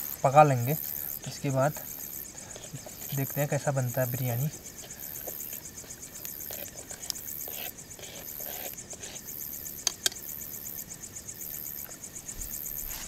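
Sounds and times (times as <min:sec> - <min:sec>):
higher-pitched insect call: 0:00.0 - 0:13.0
night insects trilling: 0:00.0 - 0:13.0.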